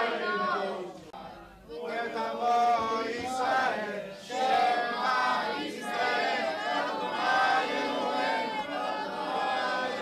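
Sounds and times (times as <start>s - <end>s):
congregation chanting a prayer: 0.0s - 10.0s.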